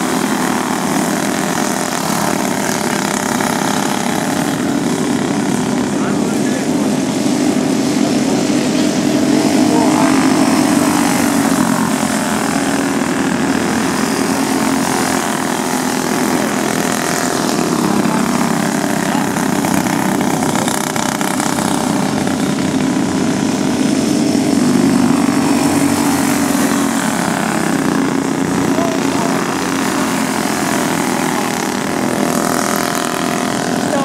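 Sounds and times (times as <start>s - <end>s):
go-kart engine droning: 0.0s - 34.0s.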